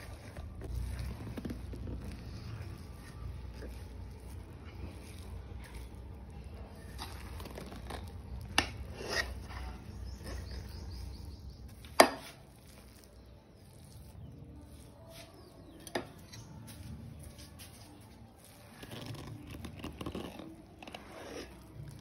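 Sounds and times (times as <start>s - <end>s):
metal ladle scraping rice: 0.0s - 22.0s.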